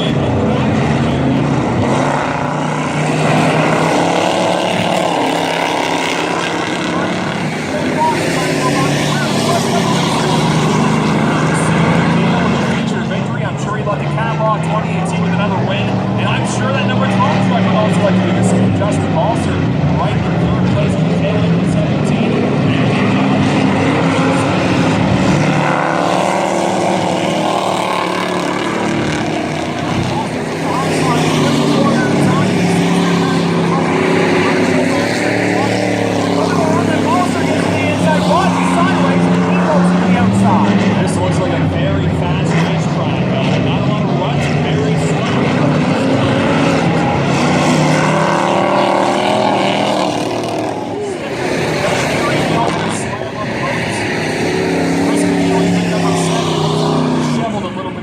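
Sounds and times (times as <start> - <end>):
race truck engines droning: 0.0 - 58.0.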